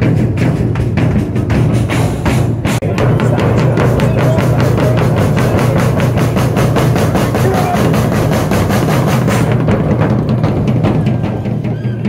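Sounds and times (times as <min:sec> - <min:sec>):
music with fast drum beat: 0:00.0 - 0:12.0.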